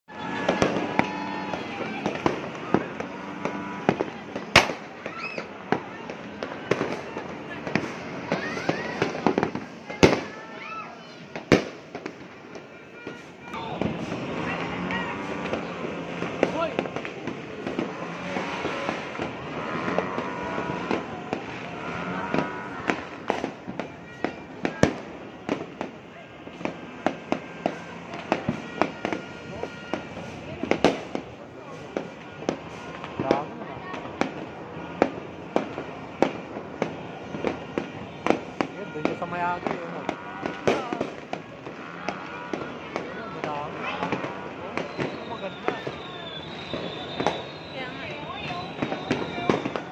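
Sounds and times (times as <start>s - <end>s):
fireworks bangs and pops: 0.0s - 49.9s.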